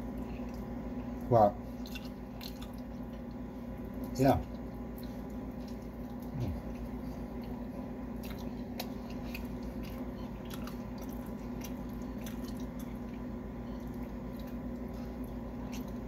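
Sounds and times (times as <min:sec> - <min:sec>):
man chewing food: 0:00.0 - 0:16.0
steady low hum: 0:00.0 - 0:16.0.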